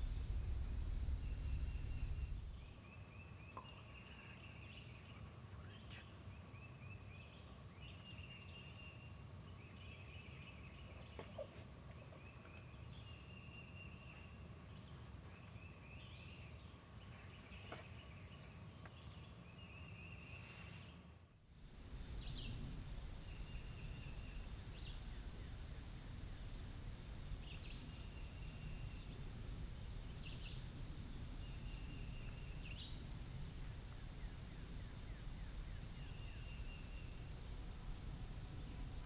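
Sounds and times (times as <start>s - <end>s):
faint high insect hum: 0.0s - 39.0s.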